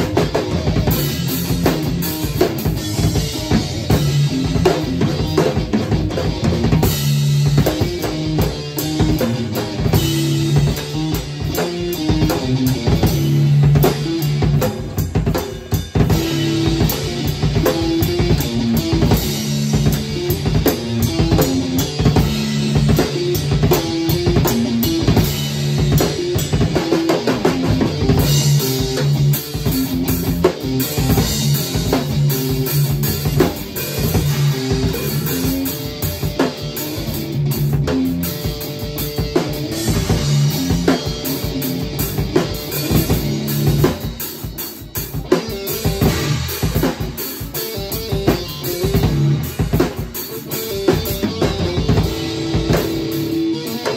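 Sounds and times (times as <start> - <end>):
drum kit beat: 0.0 - 53.9.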